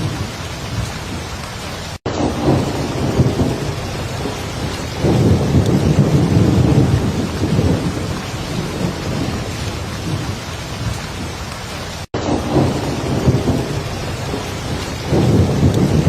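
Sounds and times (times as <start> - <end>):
heavy rain falling: 0.0 - 16.0
low rolling thunder: 2.1 - 11.5, 12.2 - 16.0.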